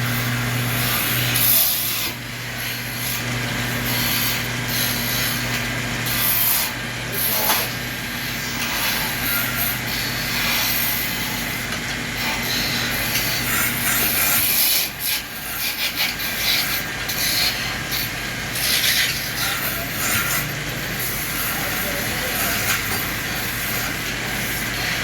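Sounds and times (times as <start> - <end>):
turning tool scraping wood: 0.0 - 25.0
wood lathe motor hum: 0.0 - 25.0.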